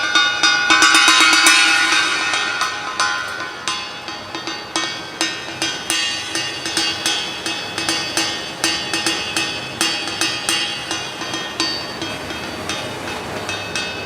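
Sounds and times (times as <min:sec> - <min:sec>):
ringing percussion strikes: 0:00.0 - 0:14.0.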